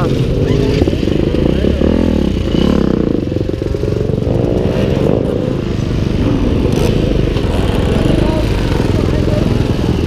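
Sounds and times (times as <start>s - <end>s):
motorcycle engine revving: 0.0s - 10.0s
motorcycle engines idling: 0.0s - 10.0s.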